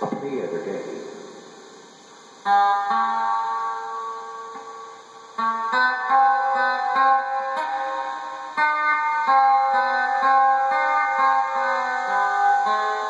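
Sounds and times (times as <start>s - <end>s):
acoustic guitar chords strummed: 2.5s - 13.0s.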